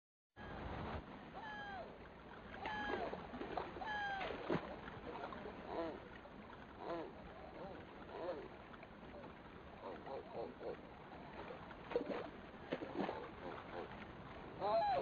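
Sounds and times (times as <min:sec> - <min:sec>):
gulls calling: 0:01.3 - 0:15.0.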